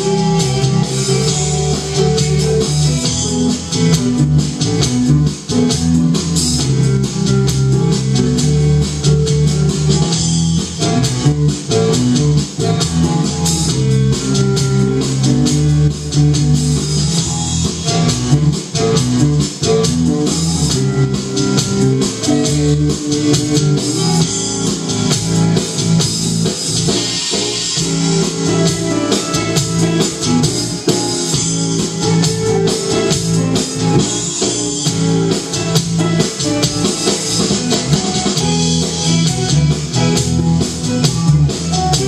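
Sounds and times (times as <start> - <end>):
rock band playing: 0.0 - 42.0.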